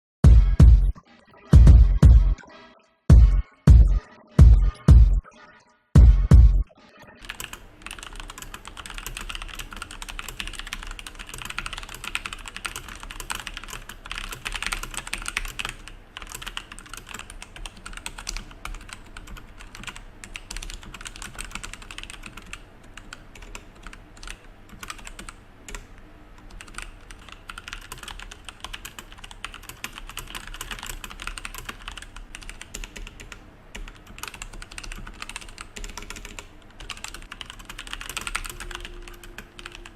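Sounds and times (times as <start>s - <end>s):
mechanical keyboard typing: 7.2s - 39.9s.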